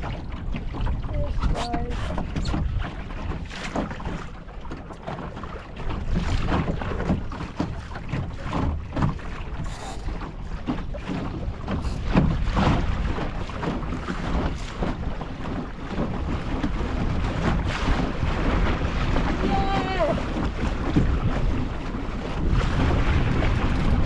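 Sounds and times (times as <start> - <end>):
water slapping against hull: 0.0 - 24.0
wind buffeting microphone: 0.0 - 24.0.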